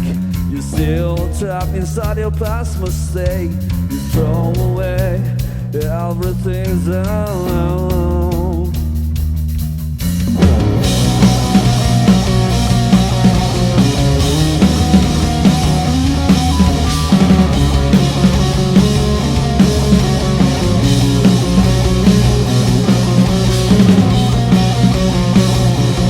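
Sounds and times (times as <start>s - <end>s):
electric guitar: 0.0s - 8.9s, 10.2s - 26.0s
bass guitar: 0.0s - 26.0s
drum kit: 0.0s - 26.0s.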